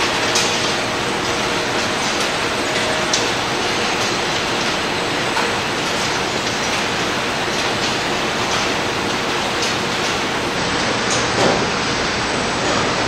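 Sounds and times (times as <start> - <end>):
conveyor machinery hissing: 0.0 - 13.0.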